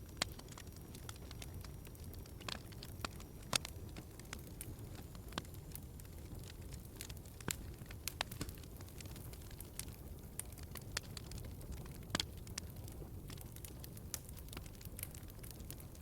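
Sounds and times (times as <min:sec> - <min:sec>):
log fire crackling: 0:00.0 - 0:16.0
low rumble of flame: 0:00.0 - 0:16.0.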